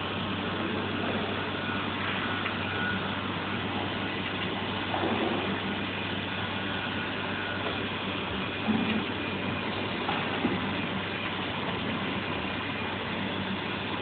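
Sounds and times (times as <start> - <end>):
electrical machine hum and hiss: 0.0 - 14.0.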